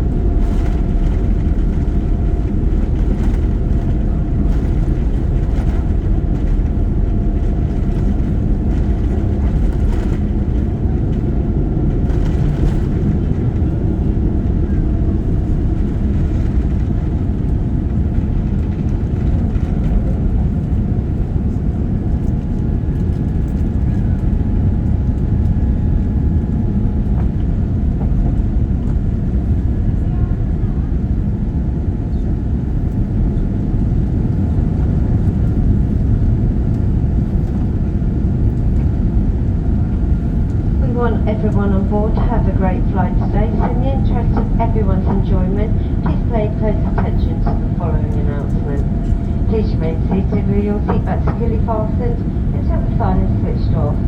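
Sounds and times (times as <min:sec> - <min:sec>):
jet engines rumbling in cabin: 0:00.0 - 0:54.0.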